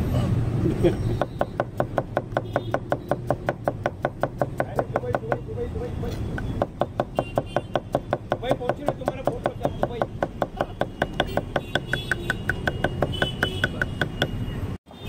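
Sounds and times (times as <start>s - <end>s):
knife chopping on wooden board: 1.2s - 5.5s, 6.2s - 14.4s.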